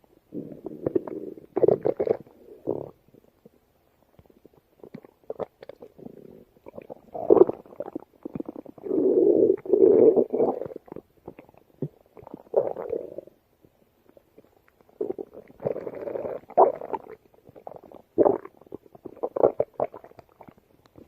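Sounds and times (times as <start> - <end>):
stomach growling and gurgling: 0.3 - 21.0.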